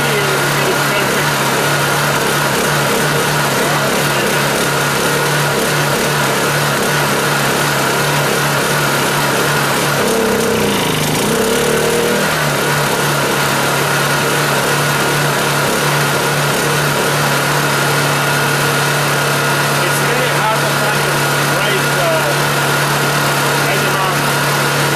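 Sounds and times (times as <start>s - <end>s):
generator engine running: 0.0s - 24.9s.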